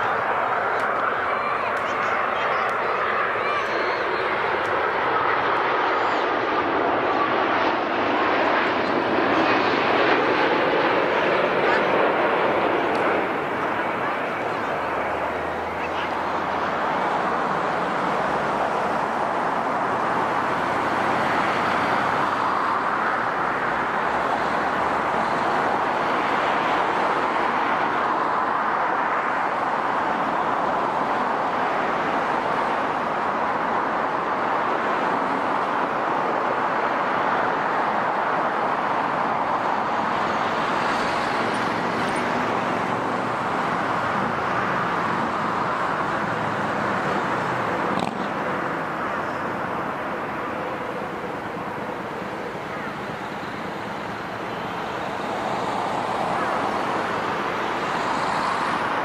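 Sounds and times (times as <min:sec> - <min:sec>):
jet engines rushing: 0:00.0 - 0:59.0.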